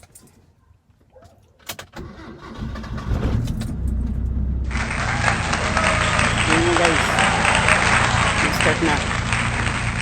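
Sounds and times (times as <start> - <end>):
car engine starting and running: 1.9 - 10.0.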